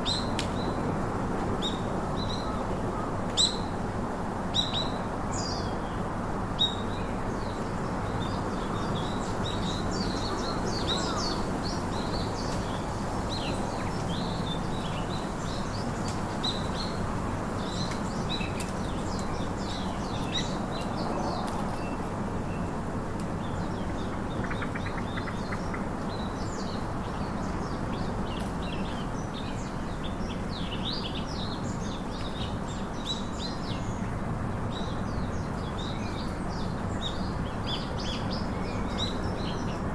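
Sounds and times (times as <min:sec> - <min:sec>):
small birds chirping: 0:06.6 - 0:22.8, 0:23.4 - 0:39.9.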